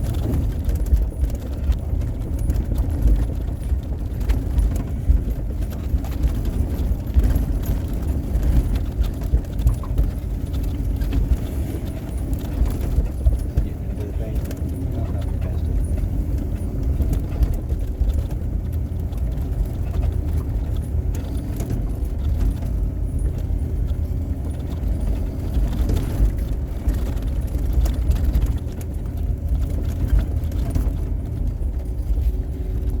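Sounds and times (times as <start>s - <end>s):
faint clicks and rattles: 0.0s - 33.0s
snow plow engine rumbling: 0.0s - 33.0s.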